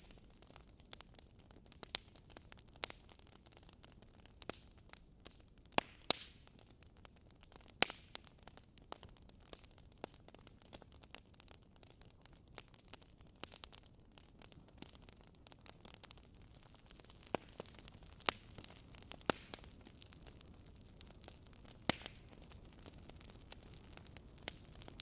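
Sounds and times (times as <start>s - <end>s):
loud fire pops: 0.0s - 6.7s, 7.4s - 25.0s
wood fire crackling: 0.0s - 25.0s.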